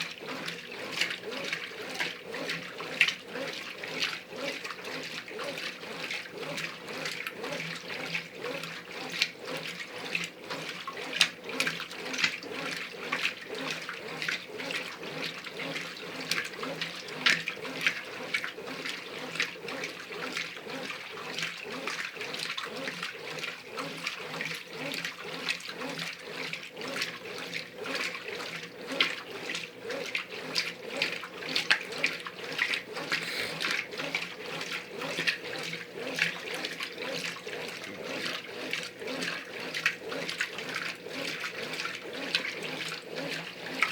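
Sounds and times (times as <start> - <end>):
faint motor hum: 0.0 - 43.9
water and clothes sloshing: 0.0 - 43.9.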